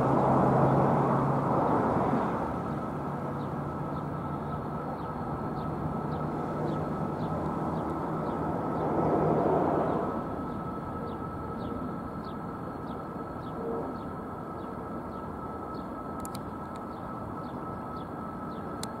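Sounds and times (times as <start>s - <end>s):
jet engines droning: 0.0s - 19.0s.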